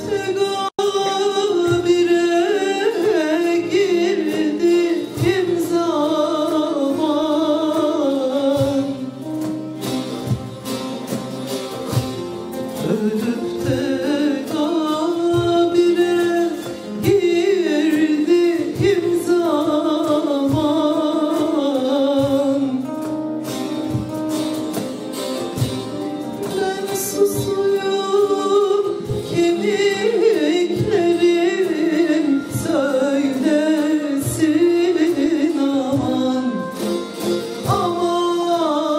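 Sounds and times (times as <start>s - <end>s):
woman singing folk song: 0.0s - 9.7s, 12.6s - 24.1s, 26.3s - 38.9s
plucked string ensemble: 0.0s - 38.9s.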